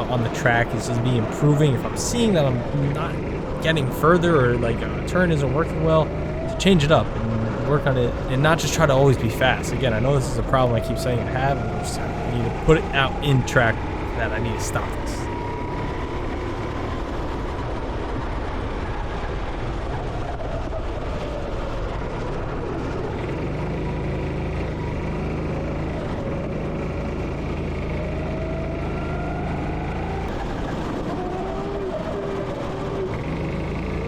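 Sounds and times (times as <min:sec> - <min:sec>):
go-kart engine revving: 0:00.0 - 0:17.8, 0:22.2 - 0:34.0
steady rushing noise: 0:00.0 - 0:28.0.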